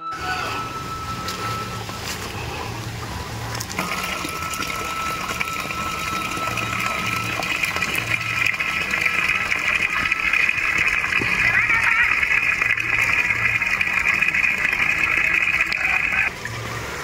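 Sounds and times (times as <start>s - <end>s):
thin high tone: 0.0s - 16.3s
water rushing: 0.0s - 17.0s.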